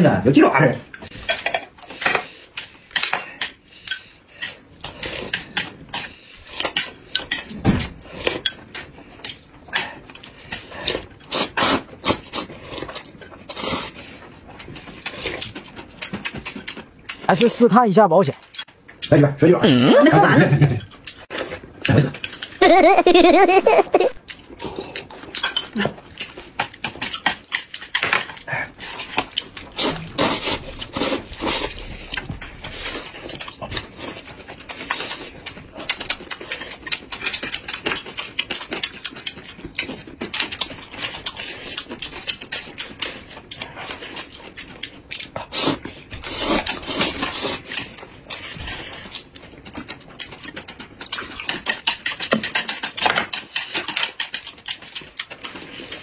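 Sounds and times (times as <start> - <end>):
people chewing and smacking food: 0.3 - 56.0.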